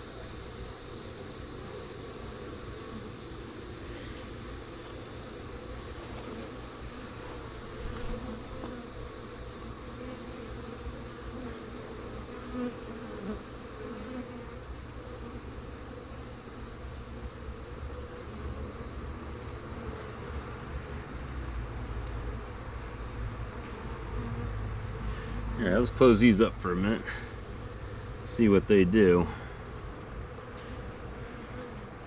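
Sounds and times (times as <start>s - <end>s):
bee passing close: 0.0s - 32.0s
bees buzzing: 0.0s - 32.0s.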